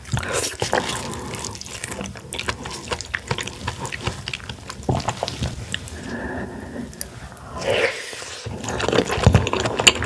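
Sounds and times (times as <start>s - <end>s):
wet slurping and sucking: 0.0s - 10.0s.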